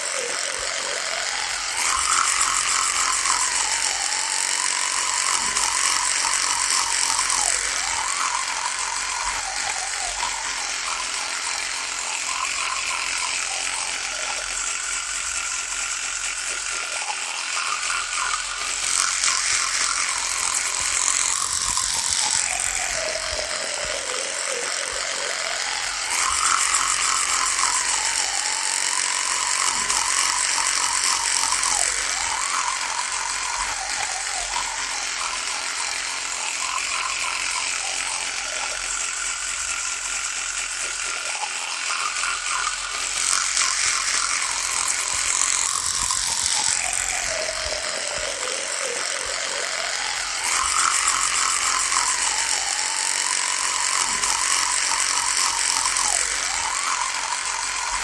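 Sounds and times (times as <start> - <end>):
electric toothbrush buzzing: 0.0 - 58.0.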